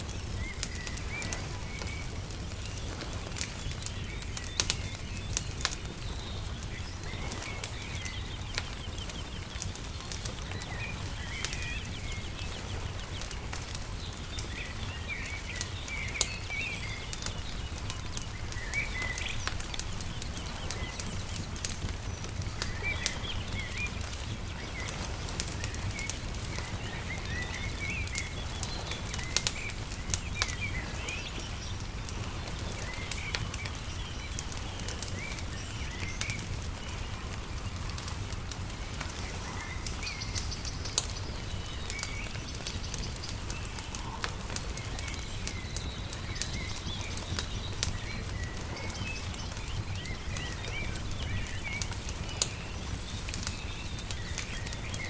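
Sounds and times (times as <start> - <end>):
small birds chirping: 0.0 - 55.0
wood fire crackling and popping: 0.0 - 55.0.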